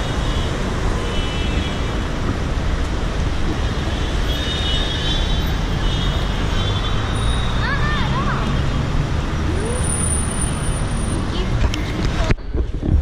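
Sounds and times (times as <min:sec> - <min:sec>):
traffic rumble on busy road: 0:00.0 - 0:13.0.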